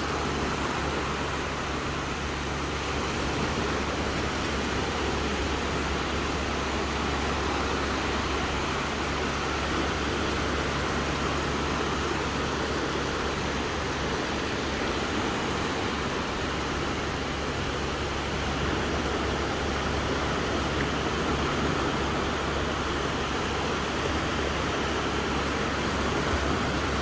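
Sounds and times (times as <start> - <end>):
gentle sea waves on a beach: 0.0 - 27.0.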